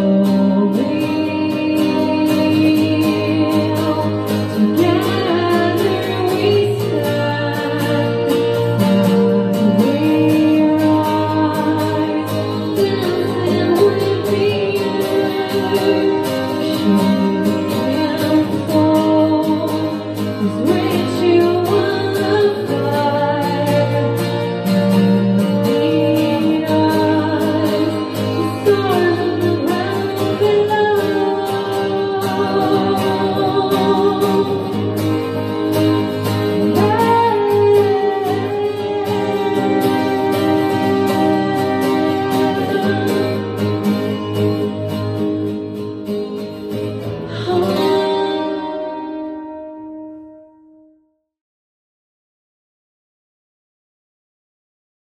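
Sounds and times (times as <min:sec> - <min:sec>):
woman singing: 0:00.0 - 0:50.4
strummed acoustic guitar: 0:00.0 - 0:51.0.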